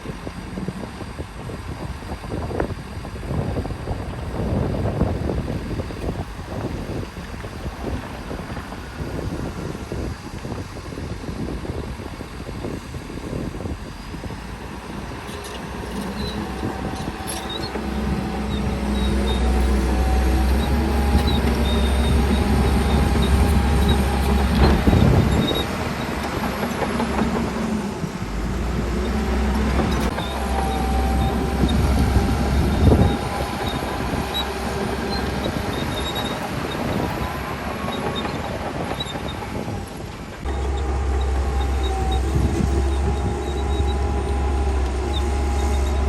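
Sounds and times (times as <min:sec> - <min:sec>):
bulldozer engine rumbling: 0:00.0 - 0:46.0.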